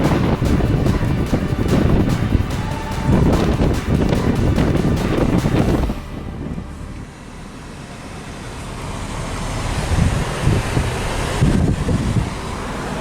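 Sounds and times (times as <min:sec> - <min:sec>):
vehicle road noise: 0:00.0 - 0:13.0
wind buffeting microphone: 0:00.0 - 0:13.0.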